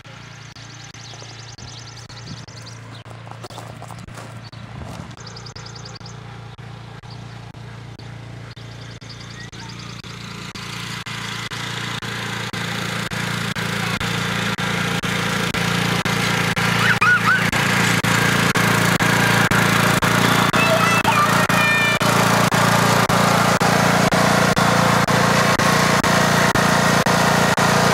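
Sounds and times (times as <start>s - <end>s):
riding lawn mower engine running: 0.0s - 27.9s.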